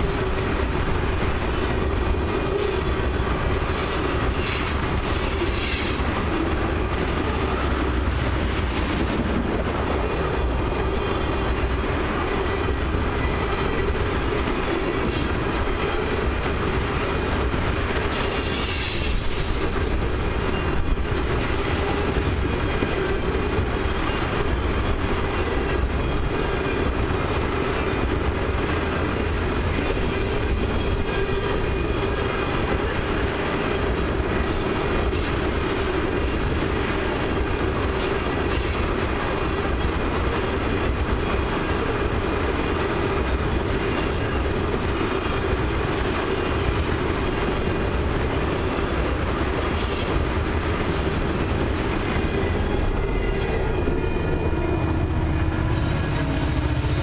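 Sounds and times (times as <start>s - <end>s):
commuter train passing: 0.0s - 57.0s
freight train rolling on track: 0.0s - 57.0s.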